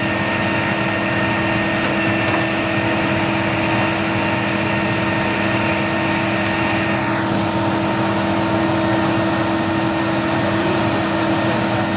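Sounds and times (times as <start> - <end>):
high-pitched whine: 0.0 - 11.9
steady hum tones: 0.0 - 11.9.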